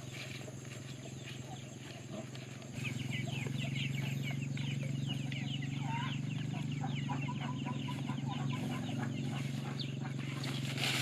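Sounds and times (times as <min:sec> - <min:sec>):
chicken clucks: 0:00.0 - 0:11.0
chicks peeping: 0:00.0 - 0:11.0.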